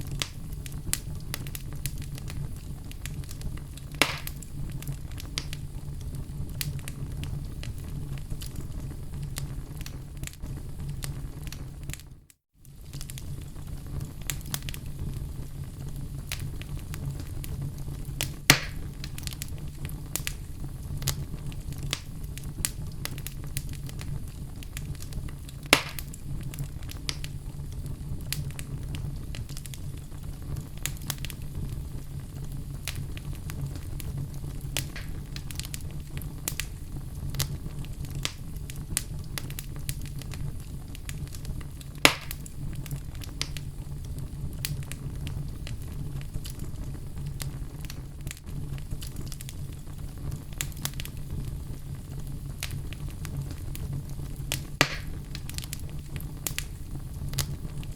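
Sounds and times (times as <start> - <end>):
loud fire pops: 0.0 - 57.9
low fire rumble: 0.0 - 57.9
wood fire crackling: 0.0 - 57.9.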